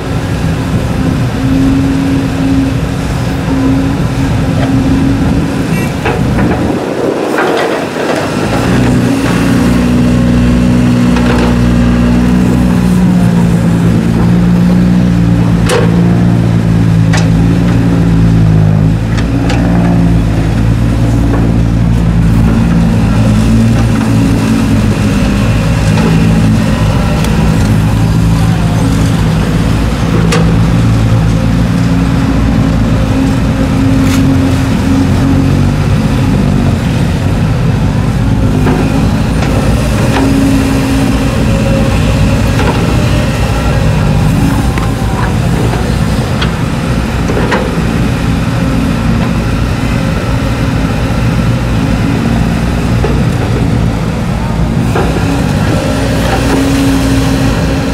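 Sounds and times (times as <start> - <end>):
excavator diesel engine: 0.0 - 57.9.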